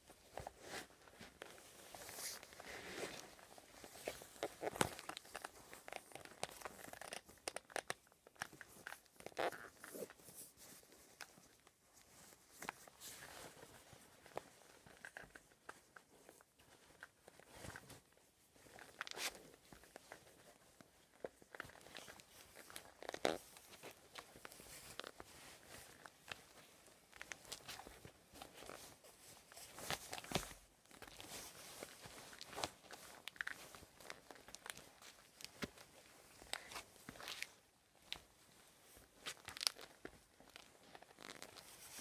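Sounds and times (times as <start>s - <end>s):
rustling of trouser fabric: 0.0s - 42.0s.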